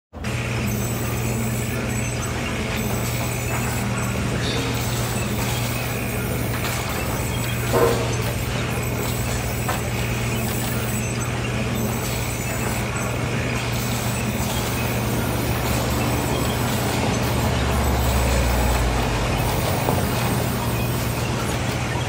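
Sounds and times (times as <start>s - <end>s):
band saw motor hum: 0.2s - 22.0s.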